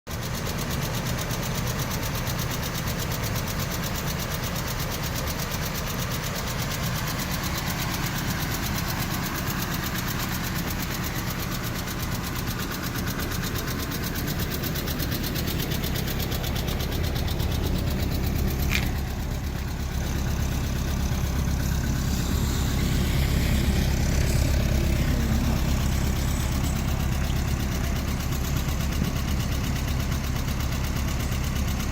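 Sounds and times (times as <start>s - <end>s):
car engine idling: 0.1s - 31.9s
rapid lifter ticking: 0.2s - 31.9s.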